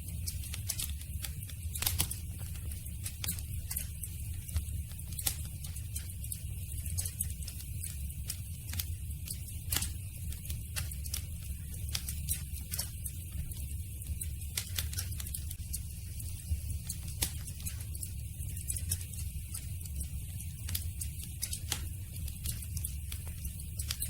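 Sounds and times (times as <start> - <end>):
campfire crackling and popping: 0.0 - 24.0
low rumble of flames: 0.0 - 24.0.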